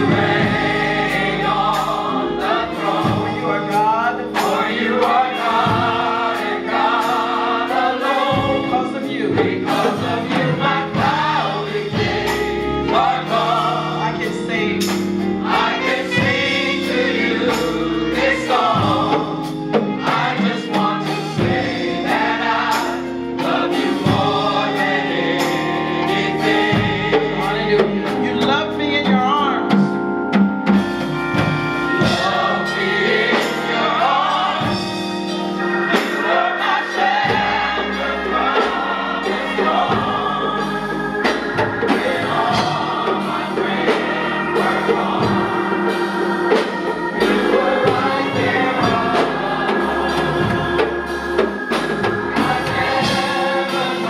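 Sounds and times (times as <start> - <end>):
gospel choir singing: 0.0 - 54.0
live band playing: 0.0 - 54.0.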